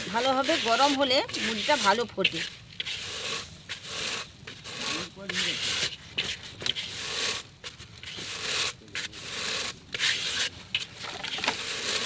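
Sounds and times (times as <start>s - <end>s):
sticks scraping hot sand: 0.0s - 12.0s.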